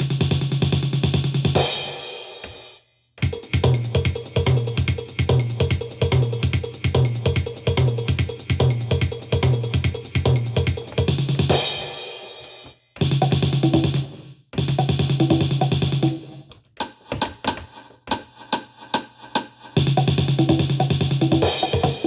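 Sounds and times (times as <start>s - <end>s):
drum machine beat: 0.0s - 22.0s.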